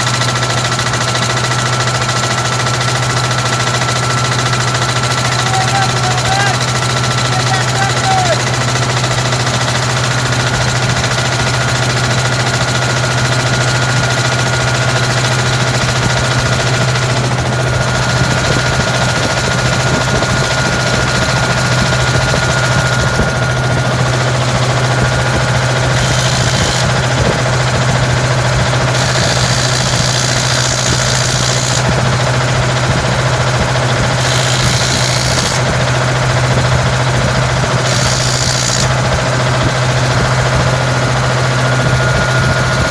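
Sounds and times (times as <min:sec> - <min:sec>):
engine low drone: 0:00.0 - 0:42.9.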